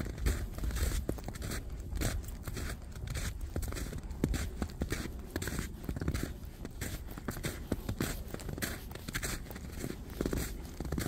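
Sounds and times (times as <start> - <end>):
footsteps crunching in snow: 0.0 - 11.0.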